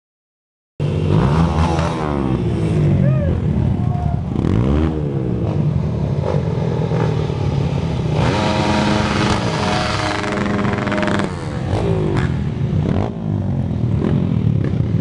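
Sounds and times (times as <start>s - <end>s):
dirt bikes riding past: 0.8s - 15.0s.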